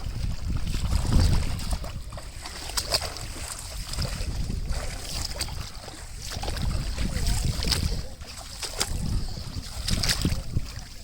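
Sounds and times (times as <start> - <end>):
light water splashing: 0.0 - 11.0
wind on microphone: 0.0 - 11.0.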